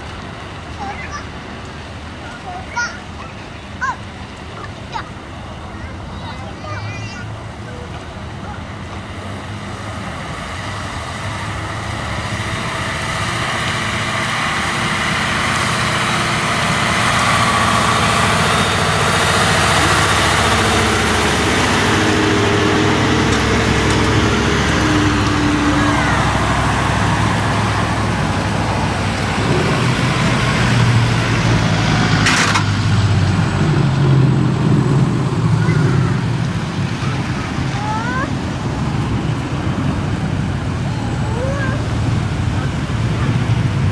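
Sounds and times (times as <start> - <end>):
diesel truck engines driving past: 0.0 - 43.9.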